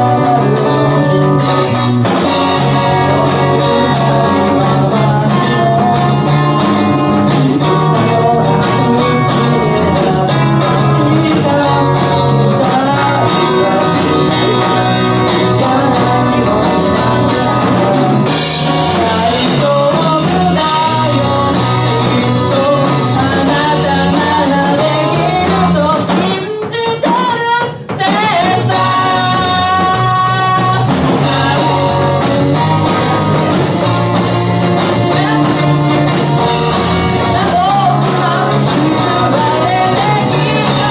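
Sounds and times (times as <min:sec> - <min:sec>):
drum kit playing: 0:00.0 - 0:40.9
electric guitars: 0:00.0 - 0:40.9
person singing: 0:00.0 - 0:40.9.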